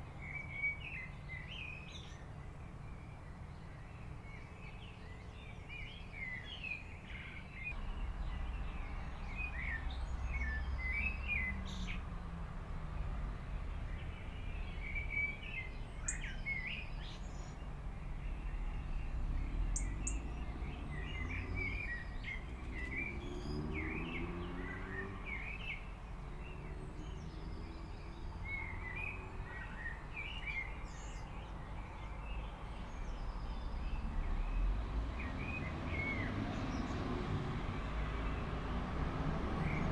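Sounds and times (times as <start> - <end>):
small birds chirping: 0.0 - 12.4, 13.0 - 38.7.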